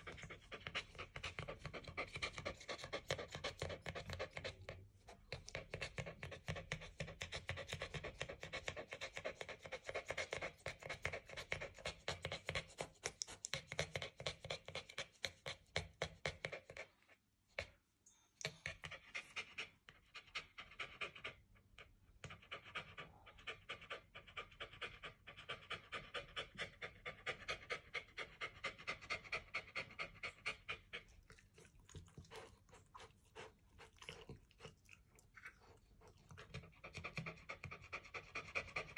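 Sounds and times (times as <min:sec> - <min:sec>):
dog panting rapidly: 0:00.0 - 0:17.0, 0:18.5 - 0:34.9, 0:35.6 - 0:38.9.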